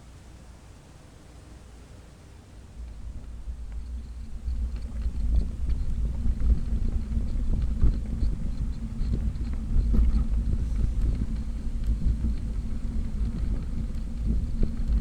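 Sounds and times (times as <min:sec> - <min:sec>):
wind buffeting the microphone: 0:02.7 - 0:15.0.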